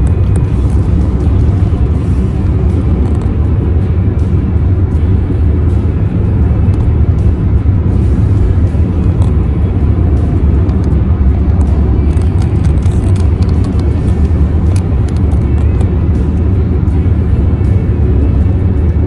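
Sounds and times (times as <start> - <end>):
road and wind noise in car: 0.0 - 19.0.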